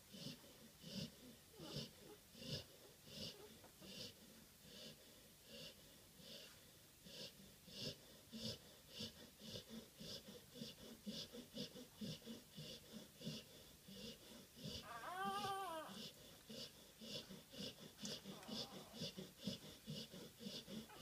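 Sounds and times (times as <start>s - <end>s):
wheezy rhythmic breathing: 0.0s - 21.0s.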